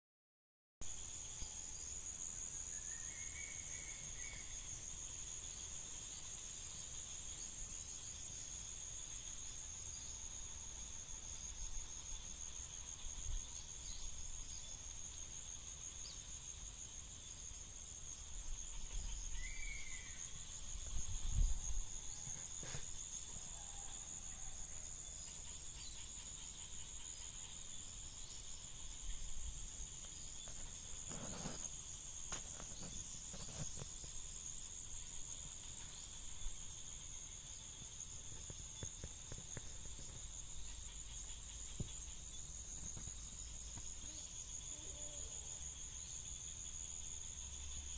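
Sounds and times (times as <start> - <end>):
high-pitched insect chorus: 0.8 - 47.9.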